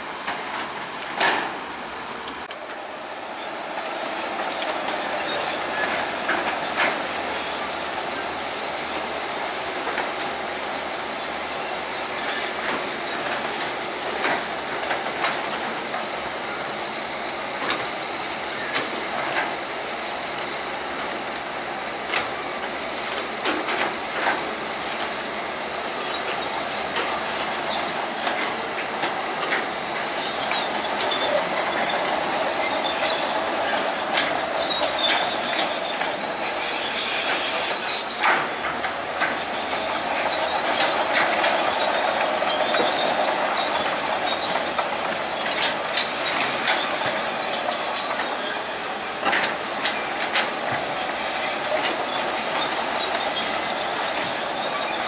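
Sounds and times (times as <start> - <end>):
steel tracks clanking and squealing: 0.0 - 55.0
bulldozer engine running: 1.6 - 55.0.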